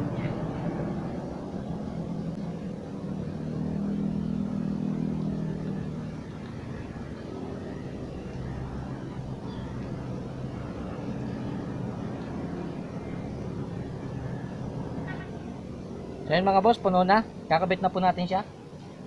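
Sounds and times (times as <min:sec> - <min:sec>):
low hum: 0:00.0 - 0:16.5
vehicle engine drone: 0:00.0 - 0:19.0.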